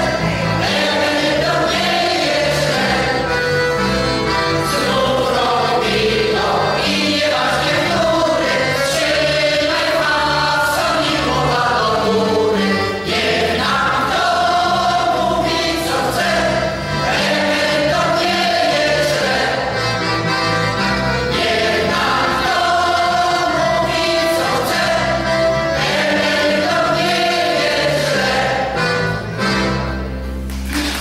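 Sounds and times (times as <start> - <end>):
mixed choir singing: 0.0 - 20.1, 21.2 - 29.2.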